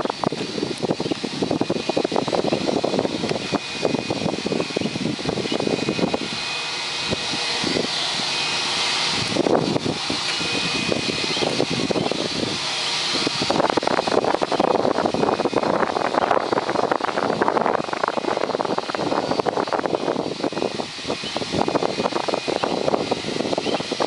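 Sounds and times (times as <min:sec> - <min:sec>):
jet aircraft engine whine: 0:00.0 - 0:24.0
wind buffeting microphone: 0:00.0 - 0:24.0.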